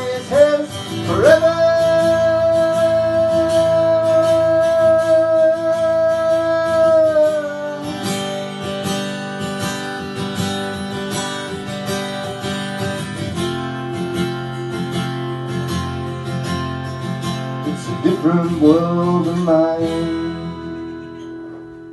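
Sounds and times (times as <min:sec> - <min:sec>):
acoustic guitar strumming chords: 0:00.0 - 0:21.9.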